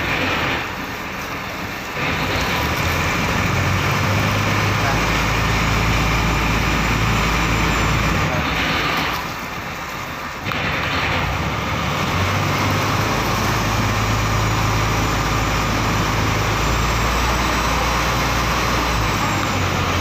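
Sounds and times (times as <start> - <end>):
boat engine humming: 0.0 - 20.0
wind and water rushing: 0.0 - 20.0.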